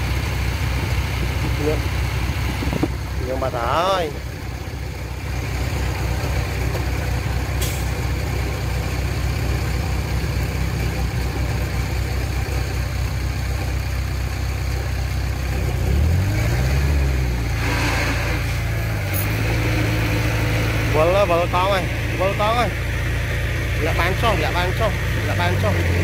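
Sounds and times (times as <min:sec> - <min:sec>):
diesel engine idling and revving: 0:00.0 - 0:26.0.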